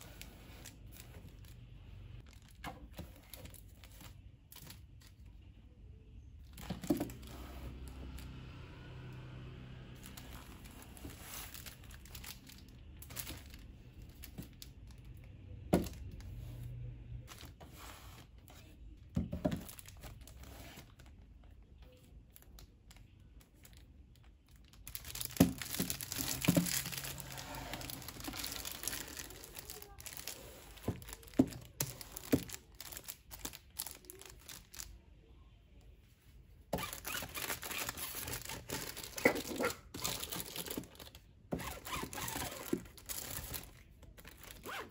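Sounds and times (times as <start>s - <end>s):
crinkling: 0.0s - 5.5s, 9.9s - 16.6s, 17.2s - 35.1s, 36.1s - 44.9s.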